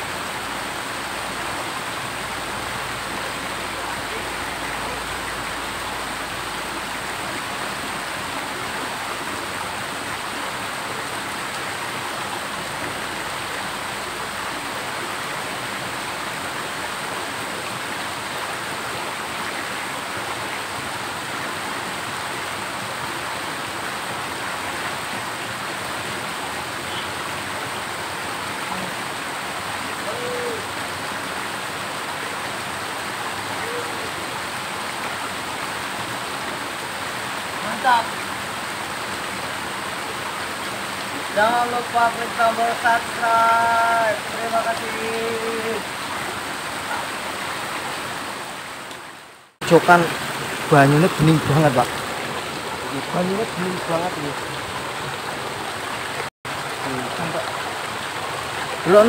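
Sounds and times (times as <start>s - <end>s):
stream cascading over boulders: 0.0s - 59.0s.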